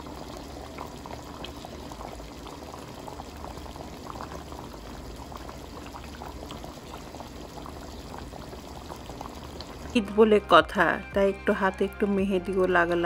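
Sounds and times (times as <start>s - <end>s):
gravy bubbling in a pot: 0.0s - 10.9s.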